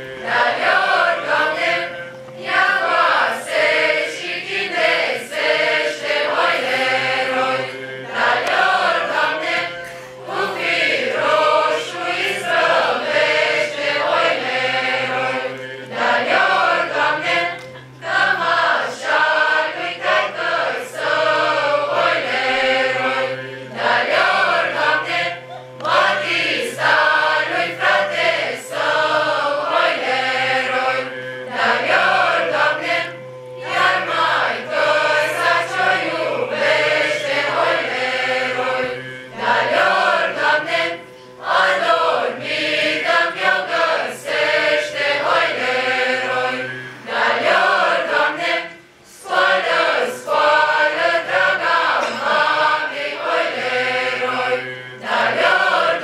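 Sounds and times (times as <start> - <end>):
mixed choir singing a carol: 0.0 - 56.0.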